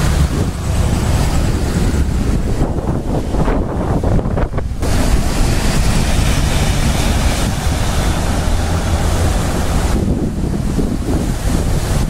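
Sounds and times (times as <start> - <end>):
street noise on wet pavement: 0.0 - 12.0
surf breaking on rocks: 0.0 - 12.0
wind buffeting microphone: 0.0 - 12.0.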